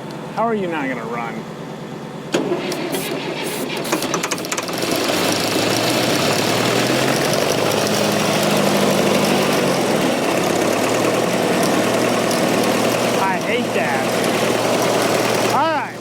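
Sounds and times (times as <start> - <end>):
diesel engine cranking and running: 0.0 - 16.0.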